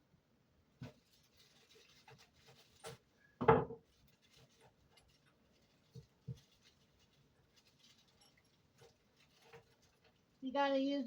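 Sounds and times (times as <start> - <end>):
handling and rustling: 0.8 - 10.4.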